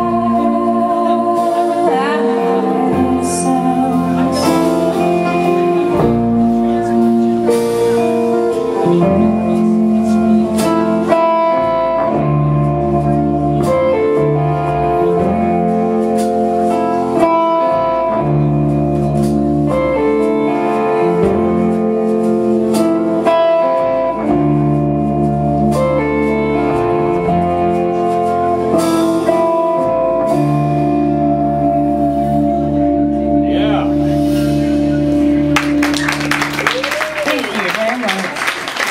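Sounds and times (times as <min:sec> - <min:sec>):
band playing guitar-led instrumental: 0:00.0 - 0:38.9.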